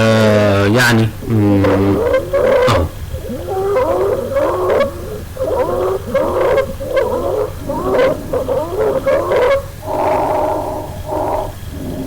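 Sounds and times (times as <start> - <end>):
rasping breathing: 0.5 - 12.0.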